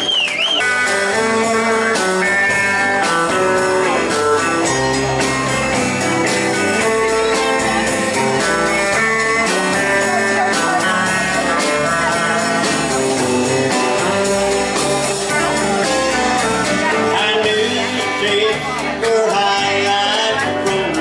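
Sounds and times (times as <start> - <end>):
bass guitar: 0.0 - 21.0
electric guitars playing melody: 0.0 - 21.0
steady drum beat: 0.0 - 21.0.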